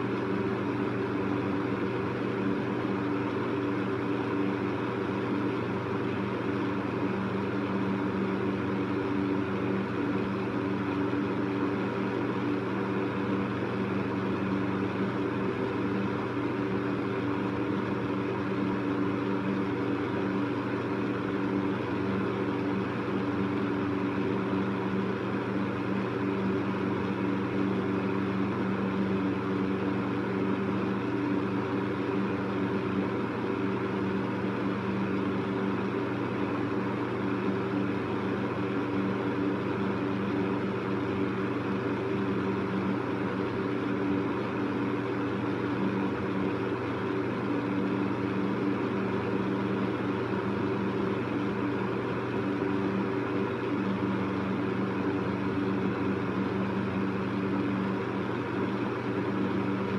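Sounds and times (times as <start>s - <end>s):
electric fan running: 0.0s - 59.9s.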